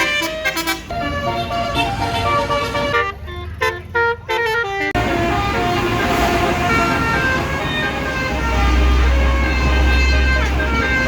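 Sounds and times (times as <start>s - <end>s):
multi-tone bus horn tune: 0.0s - 11.0s
overlapping horn notes: 0.0s - 11.0s
traffic noise: 0.0s - 11.0s.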